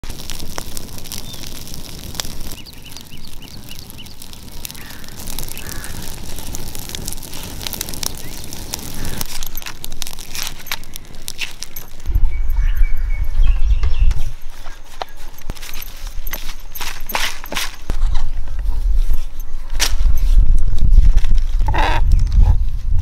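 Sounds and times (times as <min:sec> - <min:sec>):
palm fronds crackling in fire: 0:00.0 - 0:23.0.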